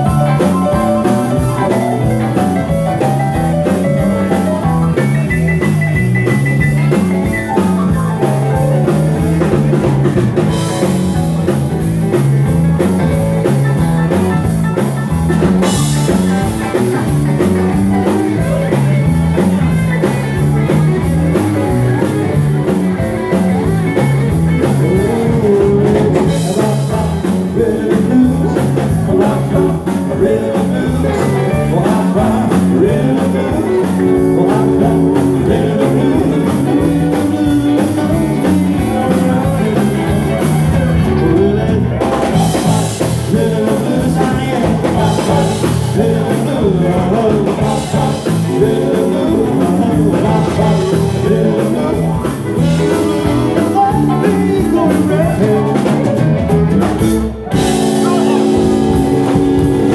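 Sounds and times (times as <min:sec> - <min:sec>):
live band playing dance music: 0:00.0 - 0:59.9
repeating bass line: 0:00.0 - 0:59.9.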